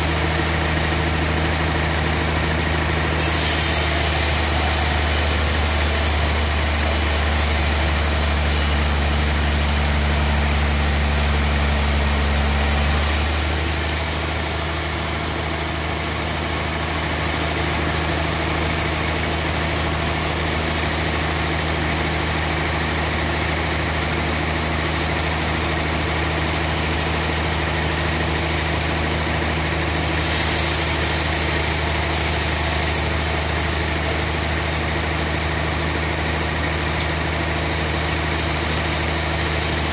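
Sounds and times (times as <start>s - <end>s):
saw blade and machine noise: 0.0s - 39.9s
sawmill motor hum: 0.0s - 39.9s.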